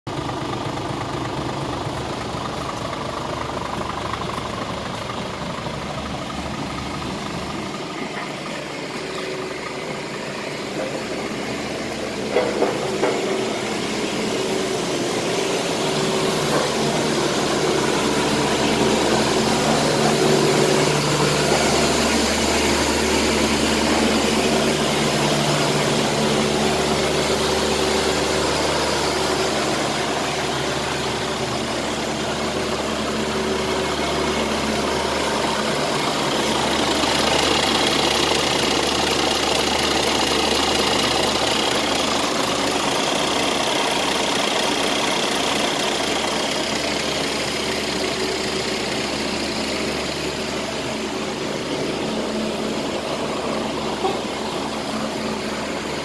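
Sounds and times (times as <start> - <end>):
diesel engine idling: 0.1 - 56.0.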